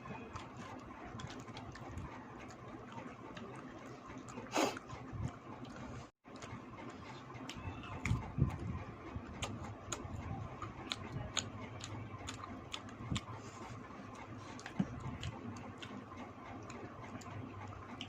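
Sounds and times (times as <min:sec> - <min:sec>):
chewing and mouth noises: 0:00.0 - 0:18.0.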